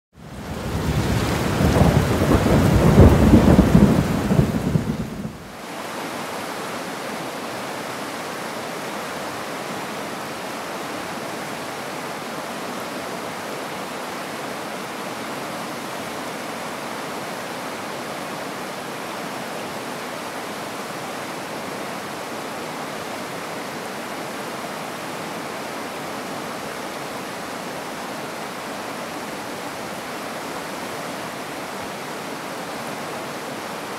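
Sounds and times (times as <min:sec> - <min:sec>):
fast-flowing stream: 0:05.4 - 0:33.9.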